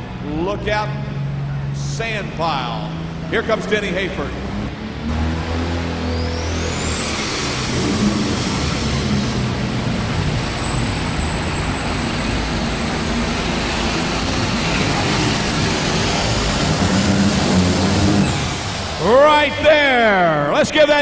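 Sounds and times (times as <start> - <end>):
tractor engine roaring: 0.0 - 21.0.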